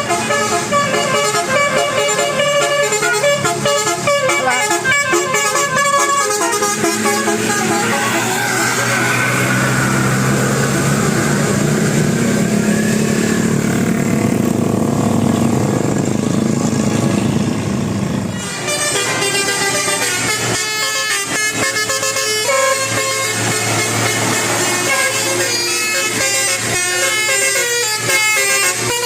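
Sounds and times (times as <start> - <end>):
multi-tone bus horns: 0.0 - 29.0.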